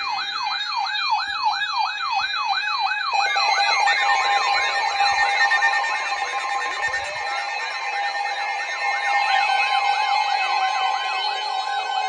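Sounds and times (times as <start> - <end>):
electronic siren yelp: 0.0 - 12.0.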